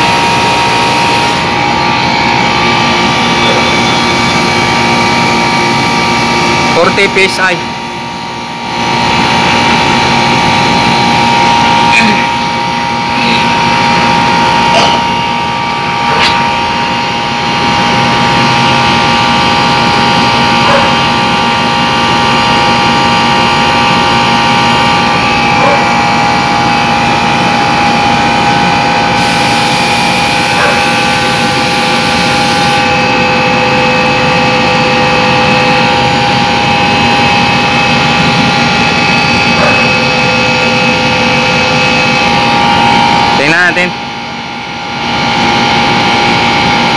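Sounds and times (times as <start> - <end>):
air conditioner compressor humming: 0.0 - 46.9.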